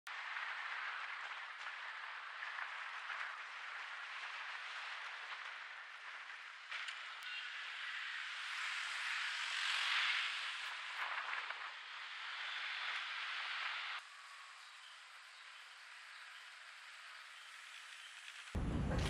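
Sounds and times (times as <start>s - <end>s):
wind and tyres rushing: 0.1s - 19.0s.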